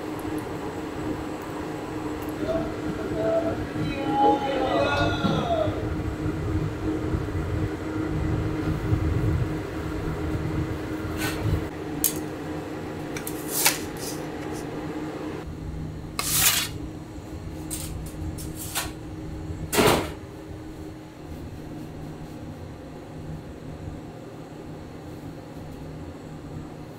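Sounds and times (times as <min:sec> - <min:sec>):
pizza oven humming: 0:00.0 - 0:26.9.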